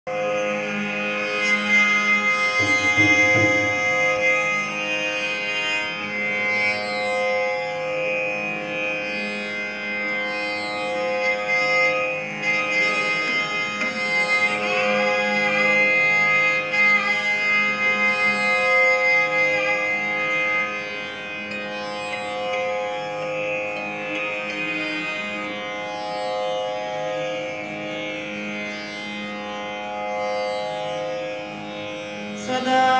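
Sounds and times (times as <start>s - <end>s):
tanpura drone: 0.0s - 32.9s
violin melody: 0.4s - 32.9s.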